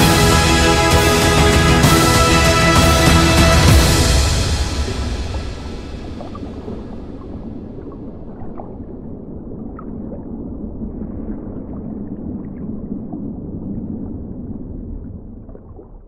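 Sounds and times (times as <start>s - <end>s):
underwater low rushing: 0.0s - 16.0s.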